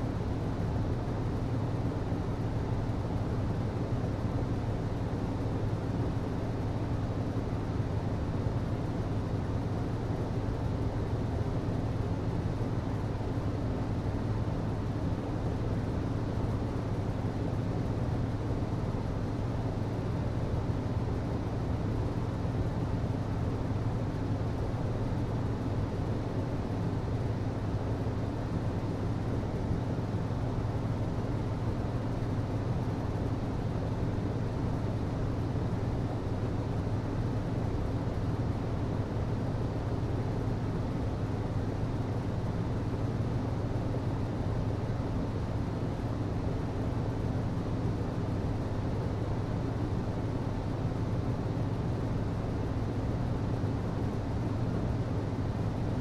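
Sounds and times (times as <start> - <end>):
hvac low hum: 0.0 - 56.0.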